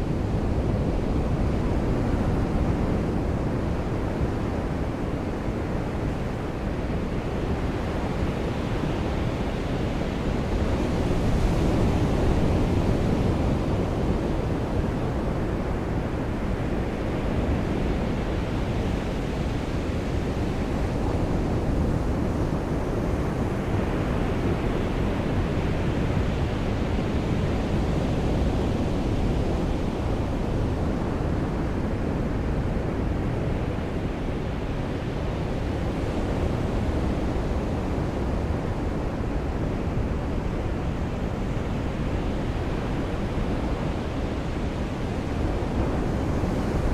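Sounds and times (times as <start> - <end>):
waves rushing on a beach: 0.0 - 46.9.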